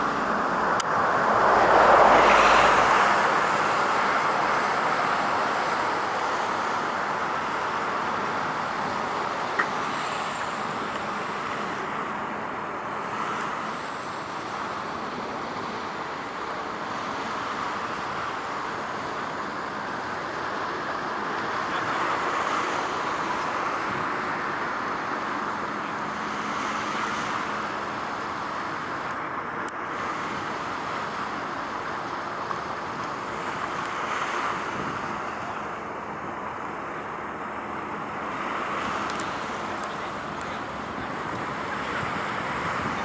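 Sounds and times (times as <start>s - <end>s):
road traffic rushing: 0.0s - 43.0s.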